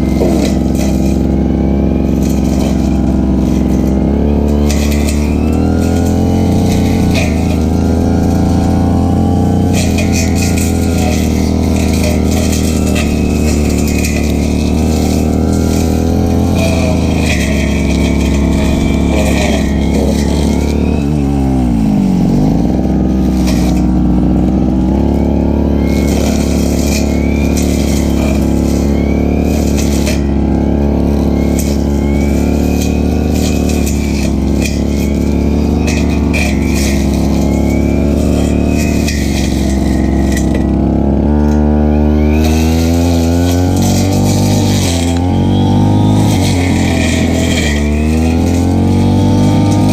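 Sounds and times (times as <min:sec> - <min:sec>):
brush cutter engine revving: 0:00.0 - 0:49.9.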